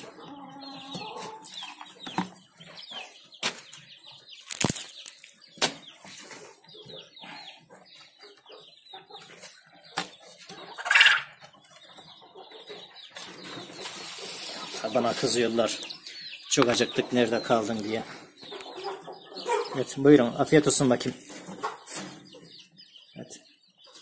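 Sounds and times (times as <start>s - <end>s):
quail chirping: 0.0s - 24.0s.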